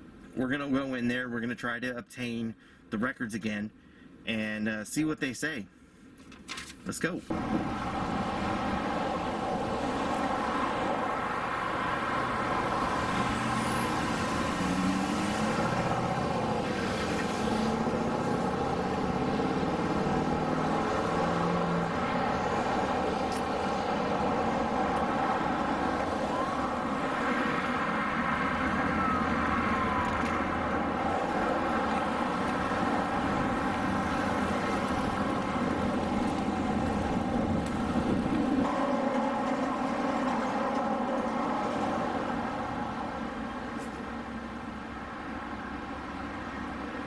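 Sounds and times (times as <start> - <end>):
highway traffic: 0.0 - 0.9, 3.7 - 4.4, 5.6 - 47.0.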